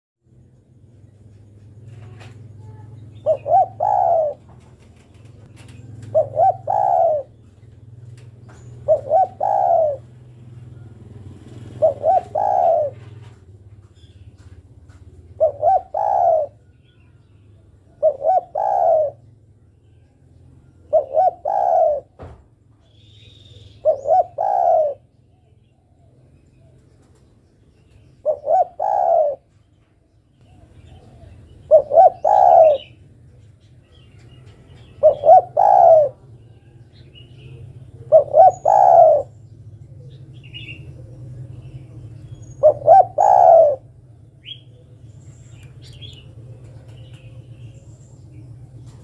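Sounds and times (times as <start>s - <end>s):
dove cooing: 1.9s - 13.5s, 14.8s - 16.7s, 17.7s - 19.6s, 20.5s - 22.4s, 23.2s - 26.8s, 28.2s - 29.7s, 30.4s - 47.8s.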